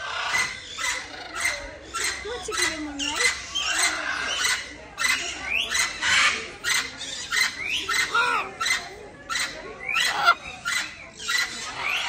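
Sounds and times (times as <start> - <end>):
parrots squawking: 0.0 - 12.0.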